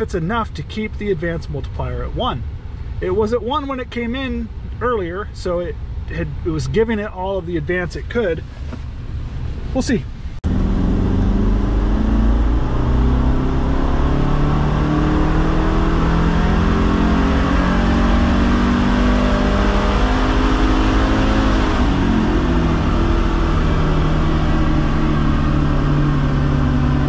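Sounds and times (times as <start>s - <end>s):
car engine at full throttle: 0.0s - 27.0s.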